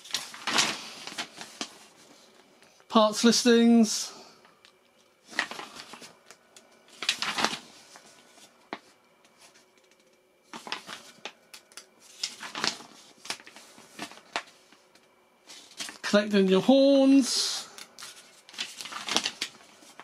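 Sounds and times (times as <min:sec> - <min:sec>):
paper pages rustling: 0:00.0 - 0:02.7, 0:05.0 - 0:16.2, 0:17.8 - 0:20.0.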